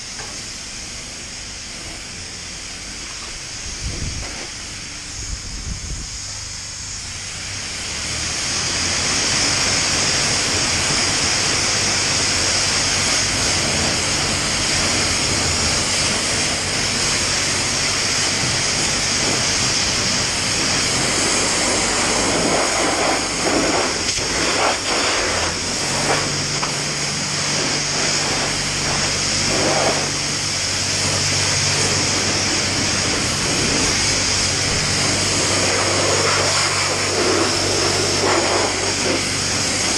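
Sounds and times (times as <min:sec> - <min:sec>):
pressure washer water jet hissing: 0:00.0 - 0:39.9.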